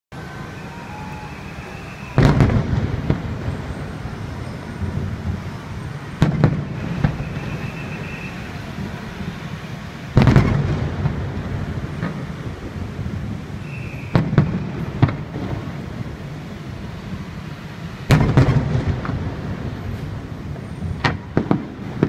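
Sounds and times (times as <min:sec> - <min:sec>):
firework crack: 0:00.2 - 0:22.0
firework booms: 0:00.3 - 0:22.0.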